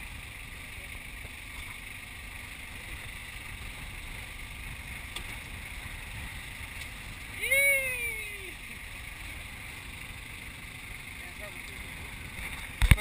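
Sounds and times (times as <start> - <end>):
wind and sea rumble: 0.0 - 13.0.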